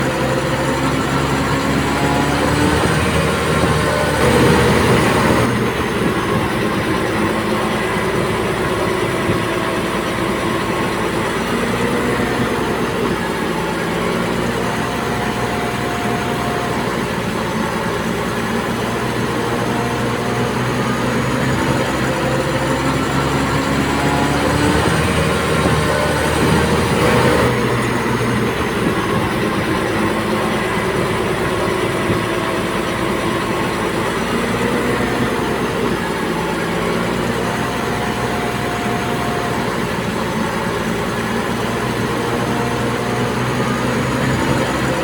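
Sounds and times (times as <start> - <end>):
bulldozer diesel engine running: 0.0 - 45.0.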